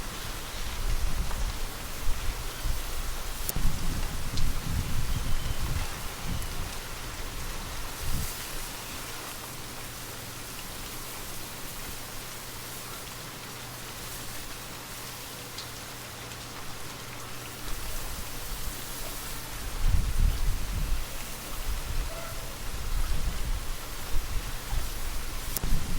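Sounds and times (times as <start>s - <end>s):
low rumble of wind: 0.0s - 12.4s, 17.5s - 25.9s
light rain hiss: 0.0s - 25.9s
rain drop ticks: 0.2s - 21.9s, 22.6s - 25.9s.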